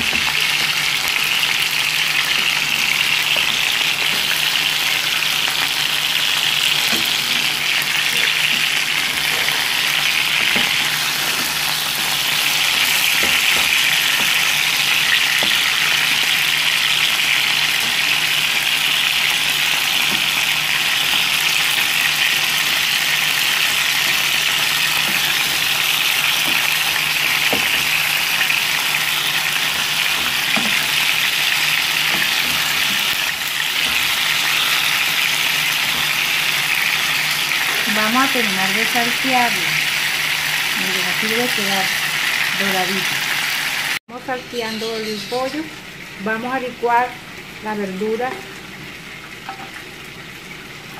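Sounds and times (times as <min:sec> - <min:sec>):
chicken sizzling in oil: 0:00.0 - 0:50.9.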